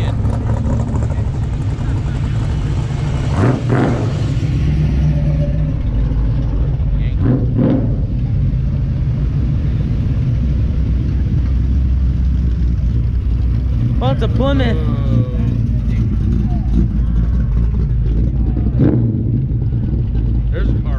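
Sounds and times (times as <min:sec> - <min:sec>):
car engine and road rumble: 0:00.0 - 0:20.9.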